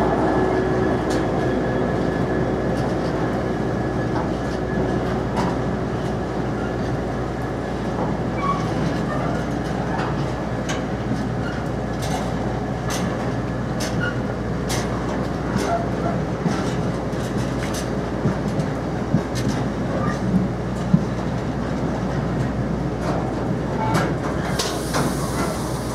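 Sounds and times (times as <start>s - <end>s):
freight train rumble: 0.0s - 25.9s.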